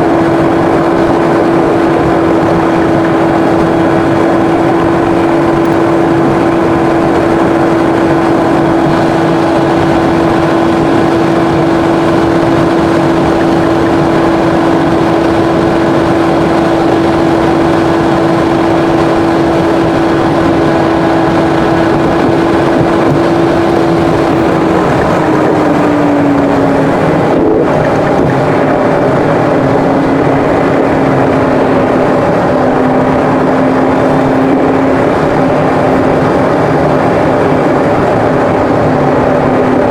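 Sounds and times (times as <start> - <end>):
car engine drone: 0.0 - 39.9.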